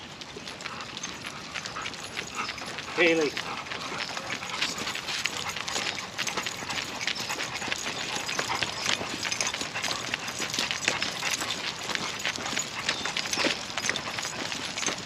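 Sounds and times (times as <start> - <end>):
dog paws clicking on pavement: 0.0 - 15.0
footsteps on pavement: 0.0 - 15.0.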